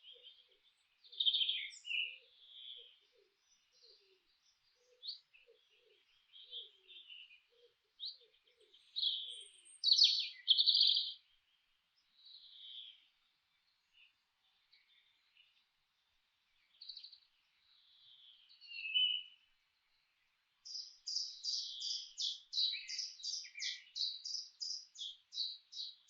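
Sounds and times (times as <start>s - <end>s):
songbirds chirping and singing: 0.0s - 26.0s.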